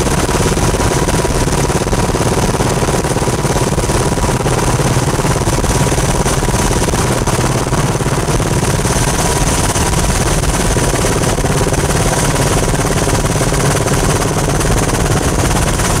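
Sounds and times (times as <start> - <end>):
helicopter engine and rotor running: 0.0 - 16.0.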